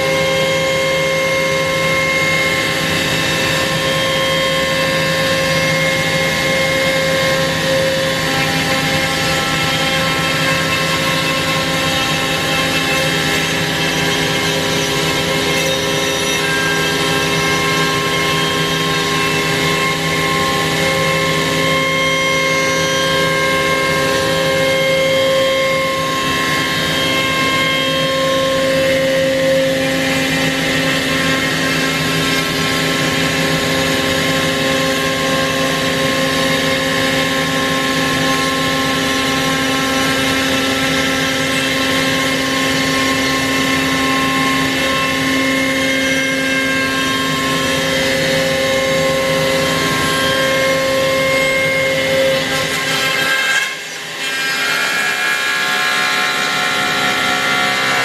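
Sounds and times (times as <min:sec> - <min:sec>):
cnc router whining: 0:00.0 - 0:58.0.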